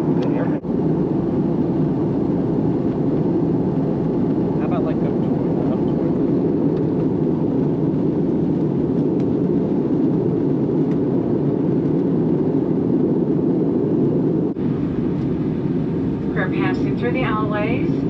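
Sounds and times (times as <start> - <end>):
airliner cabin noise: 0.0 - 18.0.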